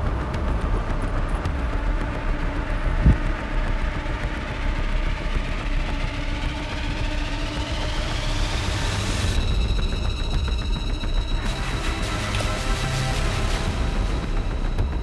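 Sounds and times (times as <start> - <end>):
low mechanical rumble with hum: 0.0 - 12.3.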